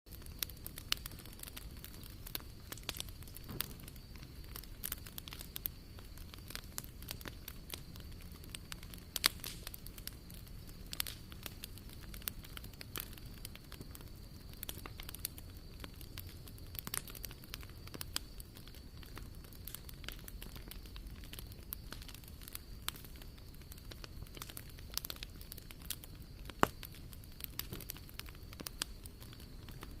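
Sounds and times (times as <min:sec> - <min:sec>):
wood fire crackling and popping: 0:00.1 - 0:30.0.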